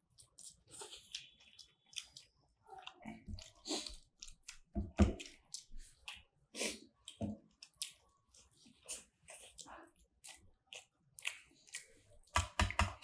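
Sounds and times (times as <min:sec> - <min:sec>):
chewing noodles: 0:00.0 - 0:13.0.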